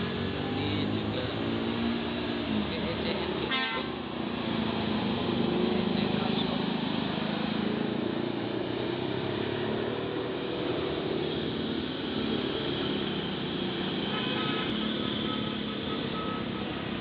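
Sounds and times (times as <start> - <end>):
bus diesel engine working hard: 0.0 - 17.0
road noise: 0.0 - 17.0.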